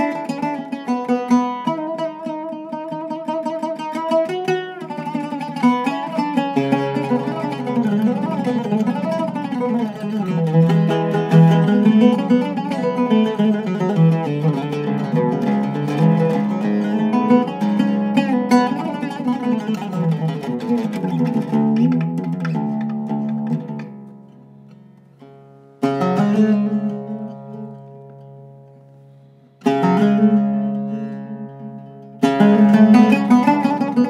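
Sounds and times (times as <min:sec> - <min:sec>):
oud plucked: 0:00.0 - 0:34.0.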